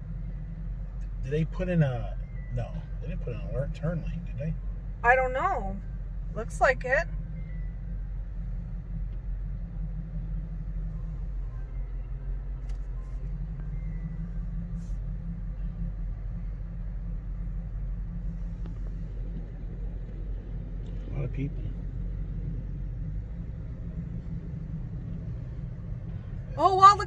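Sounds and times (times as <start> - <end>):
car engine rumble: 0.0 - 27.0
road noise: 0.0 - 27.0.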